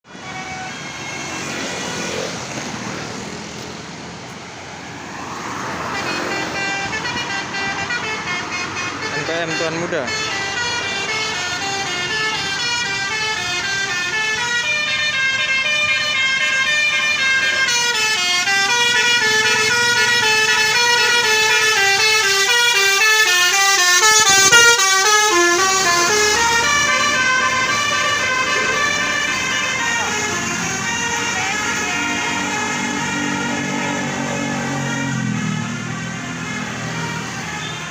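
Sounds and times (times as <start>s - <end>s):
bus horn playing a fast tune: 0.1s - 2.4s, 5.6s - 37.9s.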